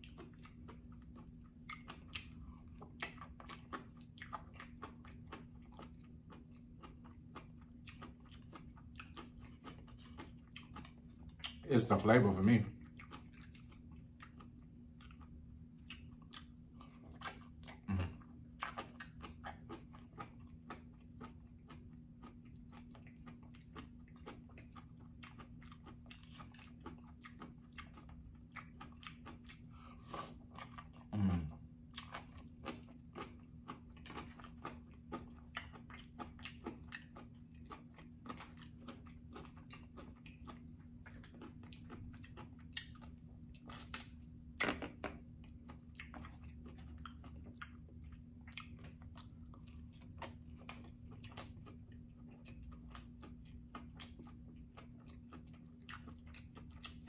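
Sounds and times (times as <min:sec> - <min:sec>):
close chewing with mouth clicks: 0:00.0 - 0:11.7, 0:12.7 - 0:57.0.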